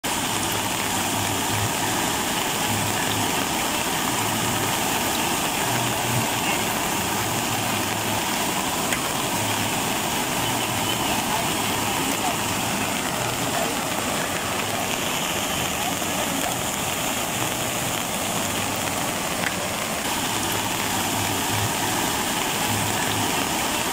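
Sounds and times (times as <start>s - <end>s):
floodwater rushing: 0.0s - 23.9s.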